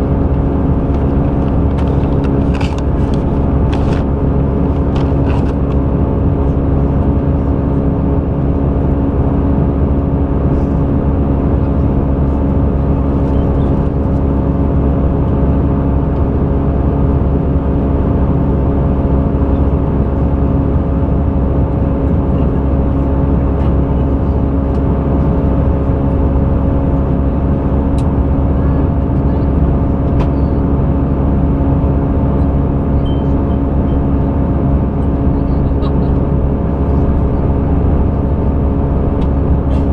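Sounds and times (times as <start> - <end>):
engine drone and rushing air: 0.0 - 39.9
steady humming tones: 0.0 - 39.9.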